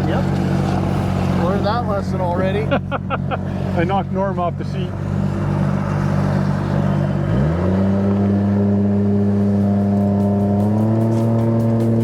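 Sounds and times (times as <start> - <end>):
boat engine revving: 0.0 - 12.0.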